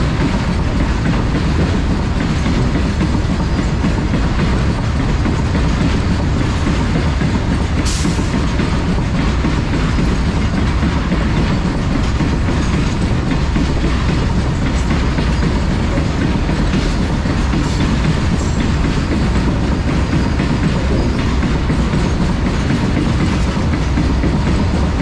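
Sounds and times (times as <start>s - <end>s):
freight train rumbling by: 0.0s - 25.0s.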